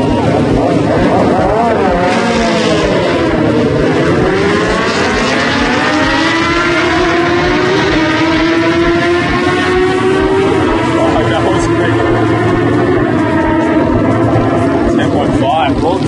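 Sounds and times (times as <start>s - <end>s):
motorcycles accelerating hard: 0.0s - 16.0s.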